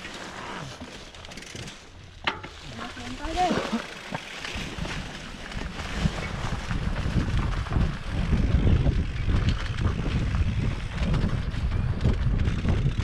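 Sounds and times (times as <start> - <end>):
bike knocks and rattles: 1.2 - 13.0
wind rumbling on microphone: 1.6 - 13.0.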